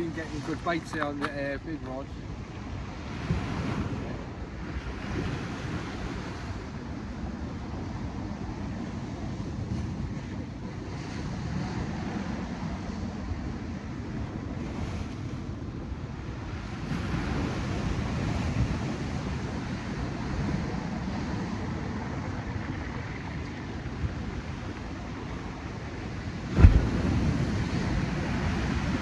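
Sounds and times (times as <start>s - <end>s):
sea surf washing on shore: 0.0s - 29.0s
wind buffeting microphone: 0.0s - 29.0s.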